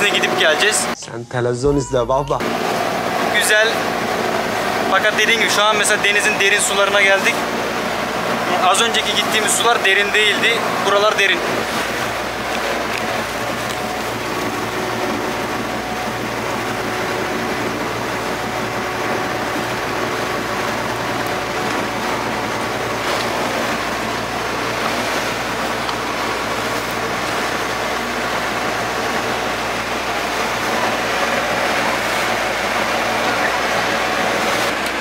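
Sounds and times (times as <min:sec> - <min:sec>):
boat engine running: 0:00.0 - 0:01.0, 0:01.6 - 0:35.0
water rushing past hull: 0:02.4 - 0:35.0.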